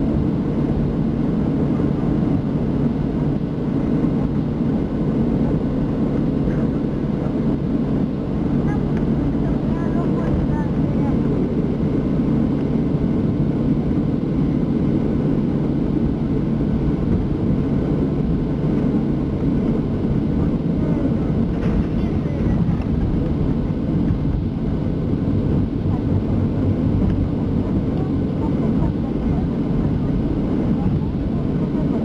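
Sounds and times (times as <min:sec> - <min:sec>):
aircraft cabin rumble: 0:00.0 - 0:32.0.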